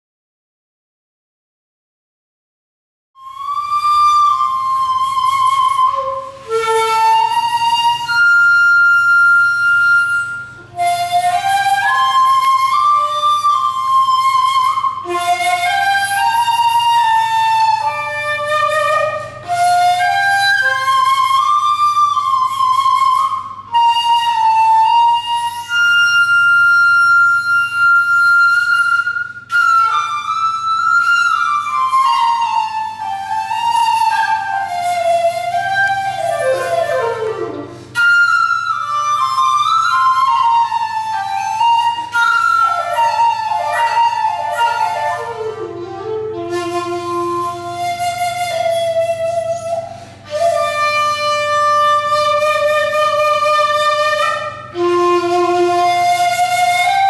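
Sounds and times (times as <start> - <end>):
bamboo flute melody: 3.2 - 57.0.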